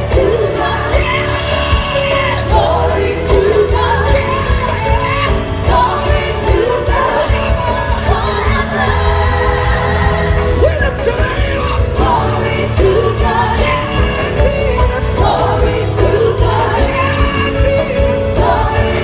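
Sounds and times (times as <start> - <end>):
gospel band playing: 0.0 - 19.0.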